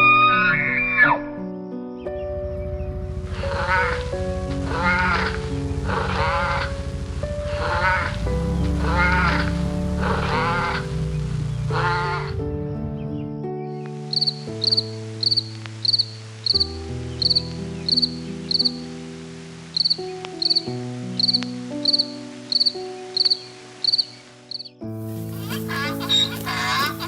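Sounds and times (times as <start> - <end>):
insect chirping in pulses: 0.0 - 18.9, 19.7 - 27.0
music of sustained chords: 0.0 - 27.0.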